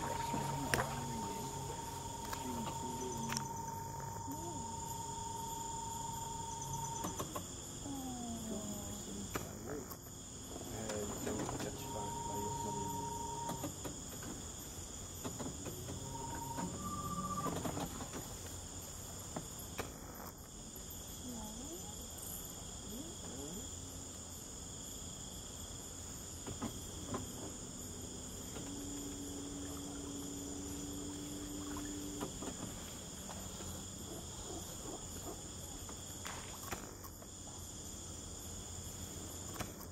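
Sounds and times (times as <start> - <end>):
faint short insect calls: 0.0 - 39.9
insects trilling: 0.0 - 39.9.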